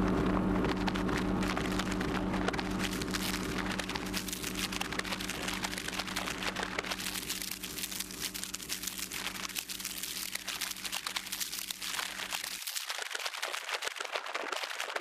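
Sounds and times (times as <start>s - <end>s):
microwave oven humming: 0.0s - 12.8s
crackling and popping: 0.0s - 15.0s.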